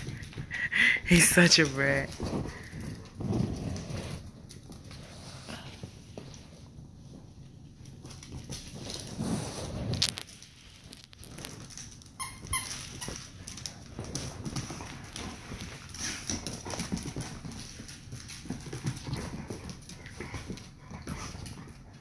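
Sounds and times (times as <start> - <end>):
dog claws scrabbling on wood floor: 1.4 - 22.0.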